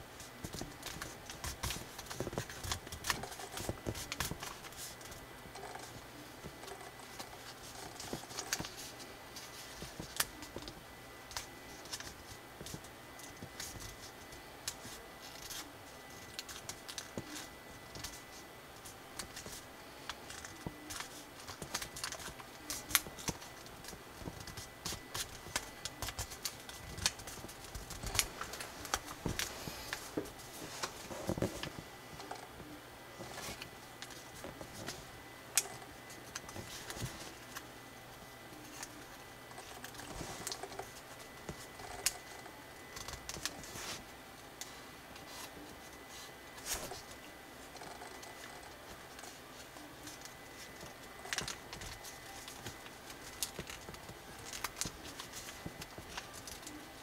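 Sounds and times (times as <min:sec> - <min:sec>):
paper rustling and crinkling: 0:00.1 - 0:37.7, 0:38.6 - 0:57.0.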